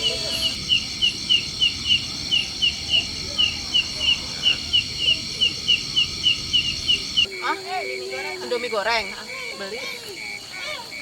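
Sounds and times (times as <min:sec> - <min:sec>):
insects buzzing: 0:00.0 - 0:11.0
sharp insect chirps: 0:00.0 - 0:11.0.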